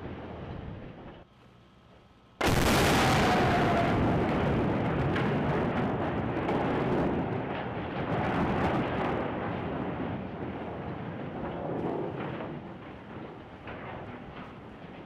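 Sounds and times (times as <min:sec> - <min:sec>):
rumble of demolition charges: 0:02.4 - 0:15.0
scattered crackles: 0:02.4 - 0:15.0.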